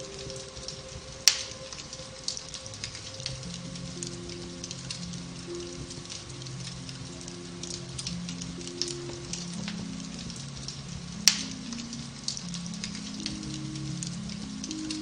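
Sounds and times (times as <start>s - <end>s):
fire crackling: 0.0s - 15.0s
soft piano music: 0.0s - 15.0s.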